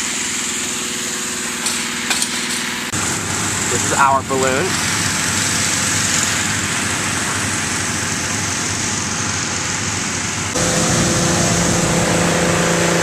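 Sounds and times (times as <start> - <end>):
inflation fan running: 0.0 - 13.0.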